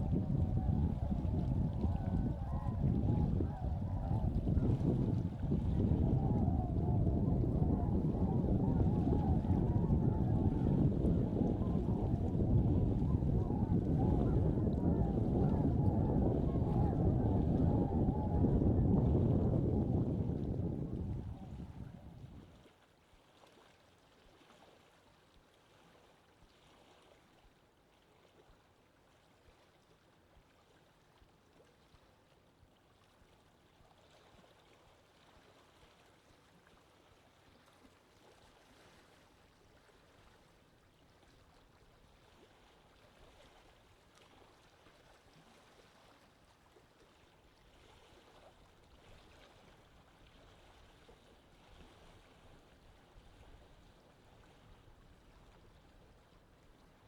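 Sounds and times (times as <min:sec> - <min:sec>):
moving water: 0:00.0 - 0:57.0.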